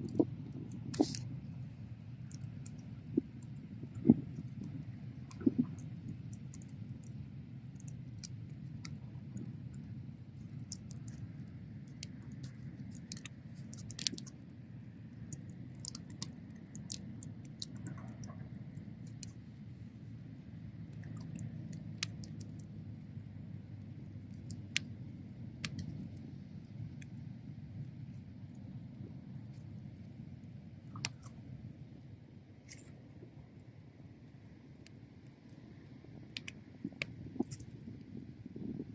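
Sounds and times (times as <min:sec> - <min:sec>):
bonfire flames rumbling: 0:00.0 - 0:38.9
fire crackles and pops: 0:00.0 - 0:38.9.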